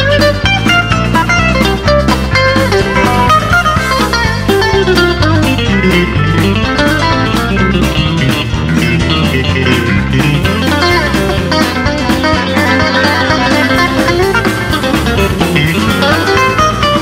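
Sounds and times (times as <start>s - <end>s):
guitar-led blues-rock music: 0.0s - 17.0s.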